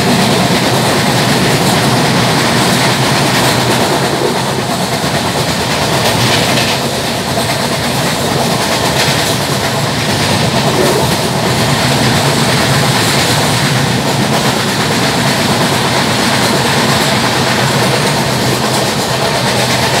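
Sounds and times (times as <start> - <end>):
train wheels on rails: 0.0 - 20.0
wheel knocking: 0.0 - 20.0.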